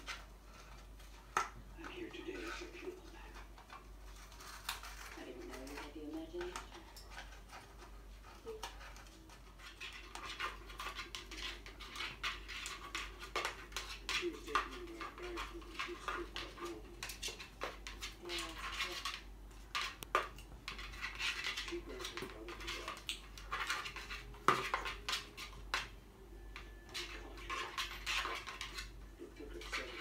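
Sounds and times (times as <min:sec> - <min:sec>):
parrot chewing cardboard: 0:00.0 - 0:30.0.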